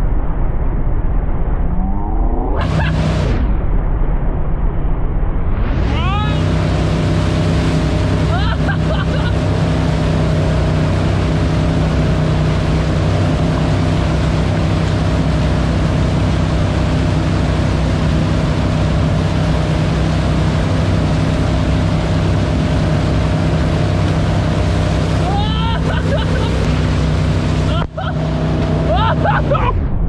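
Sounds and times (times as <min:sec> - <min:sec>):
rushing wash of wake: 0:00.0 - 0:03.6, 0:05.4 - 0:30.0
boat engine droning: 0:00.1 - 0:03.6, 0:05.7 - 0:29.9.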